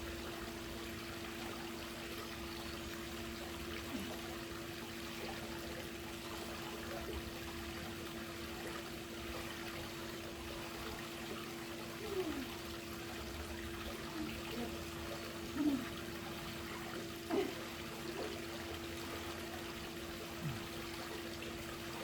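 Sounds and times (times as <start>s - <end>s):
pool water trickling and lapping: 0.0s - 22.0s
steady low hum: 0.0s - 22.0s
water gurgles: 0.0s - 22.0s.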